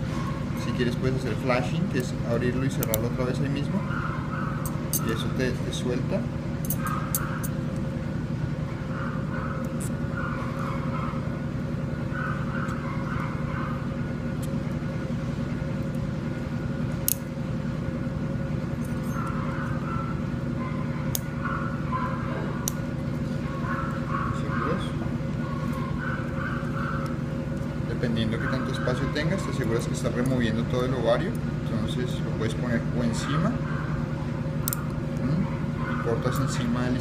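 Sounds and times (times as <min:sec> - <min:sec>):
equipment low hum: 0:00.0 - 0:37.0.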